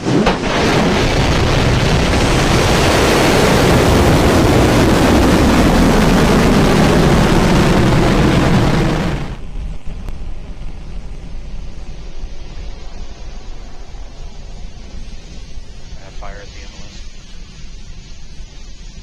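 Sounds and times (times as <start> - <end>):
deep rocket roar: 0.0 - 19.0.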